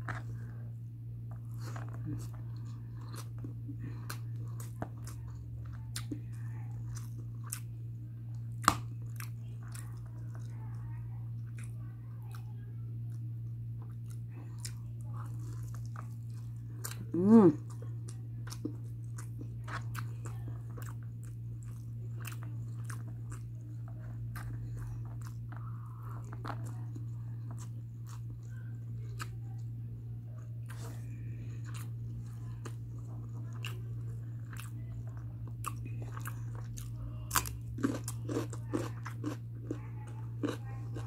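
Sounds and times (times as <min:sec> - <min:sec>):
soft chewing with wet clicks: 0:00.0 - 0:41.0
steady low hum: 0:00.0 - 0:41.0
crunching cucumber: 0:01.3 - 0:10.6, 0:13.8 - 0:29.7, 0:30.4 - 0:41.0.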